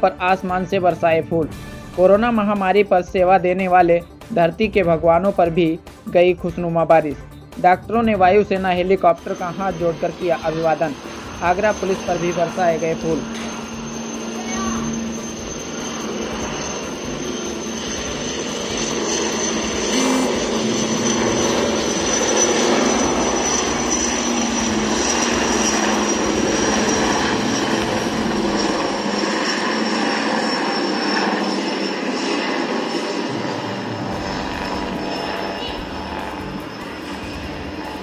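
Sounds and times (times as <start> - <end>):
helicopter flying overhead: 0.0 - 38.0.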